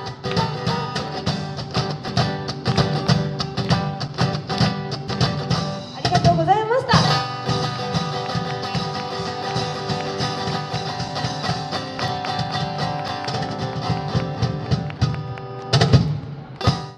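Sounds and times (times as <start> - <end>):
guitar strumming: 0.0 - 16.9.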